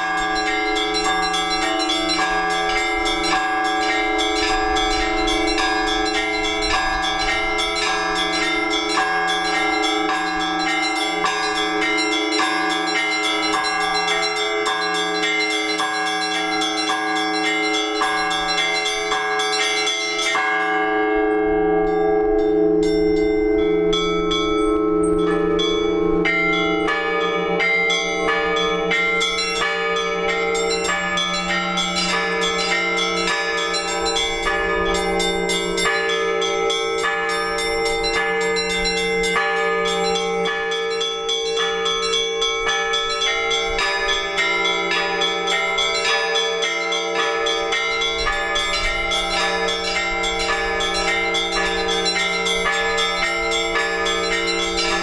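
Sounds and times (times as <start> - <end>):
large church bells ringing: 0.0 - 55.0
small church bells struck fast: 0.0 - 55.0.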